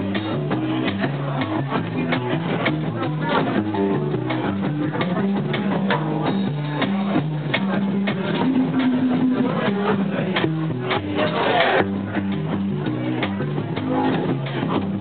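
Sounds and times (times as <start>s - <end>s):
drum kit cymbals and drums: 0.0s - 15.0s
plucked double bass: 0.0s - 15.0s.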